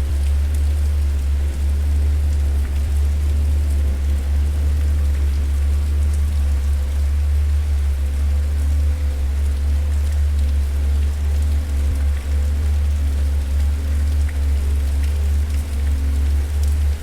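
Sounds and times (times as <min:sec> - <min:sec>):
low fire rumble: 0:00.0 - 0:17.0.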